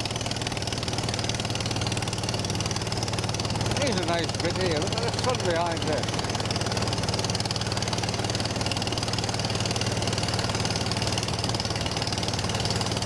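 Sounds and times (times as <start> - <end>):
motorboat engine chugging: 0.0 - 13.0.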